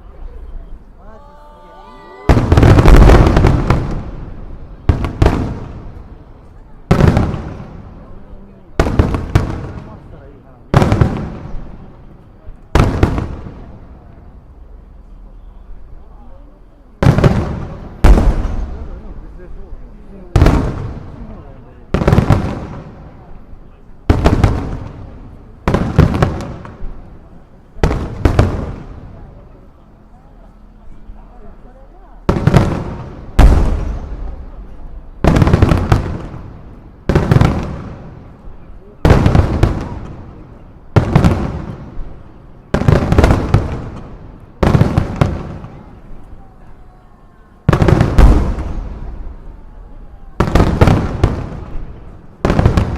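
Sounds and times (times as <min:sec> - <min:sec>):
fireworks bursting: 0:01.7 - 0:29.7, 0:30.6 - 0:46.8, 0:47.6 - 0:52.9.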